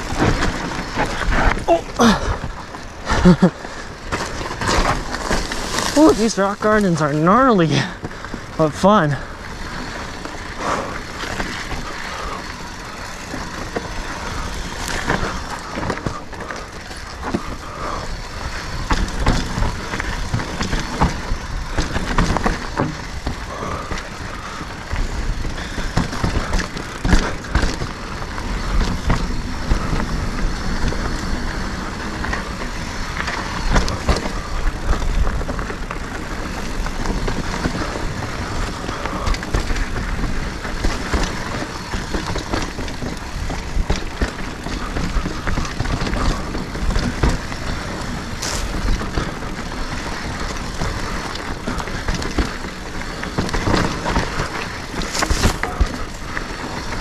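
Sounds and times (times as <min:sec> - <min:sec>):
bike rattling over rocks: 0:00.0 - 0:57.0.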